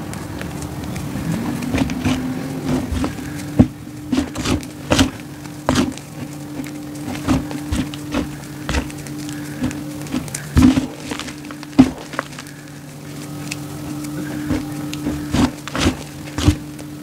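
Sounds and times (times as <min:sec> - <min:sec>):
chalk crunching by hand: 0:00.0 - 0:17.0
steady low hum: 0:00.0 - 0:17.0.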